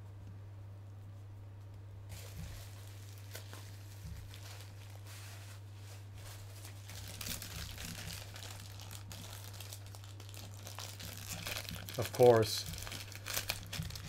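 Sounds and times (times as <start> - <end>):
low electrical hum: 0.0 - 14.0
plastic bag crinkling: 2.1 - 14.0.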